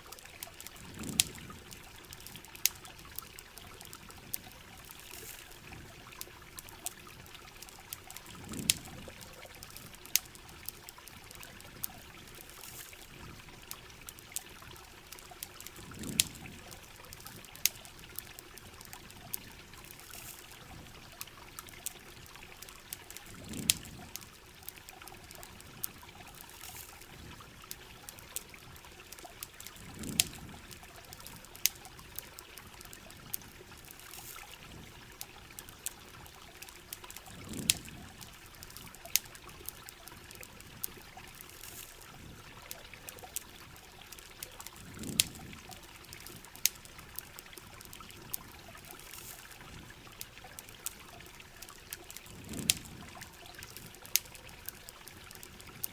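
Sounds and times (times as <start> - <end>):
campfire crackling and popping: 0.0 - 55.9
river water running: 0.0 - 55.9.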